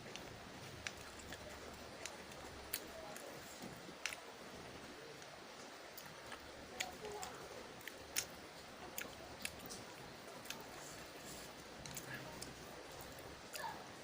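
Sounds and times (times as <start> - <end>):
person chewing: 0.1 - 4.3, 5.9 - 13.8.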